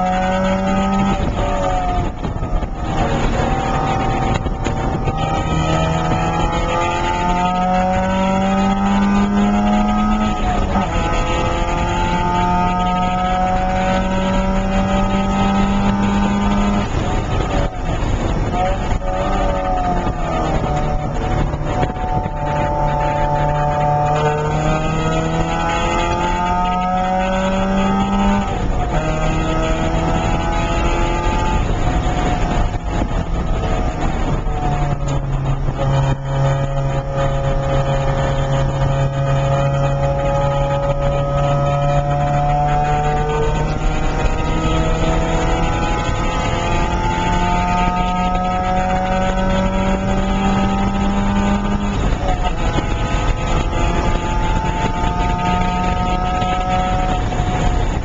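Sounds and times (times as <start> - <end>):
car engine revving: 0.0 - 58.0
road and wind noise: 0.0 - 58.0.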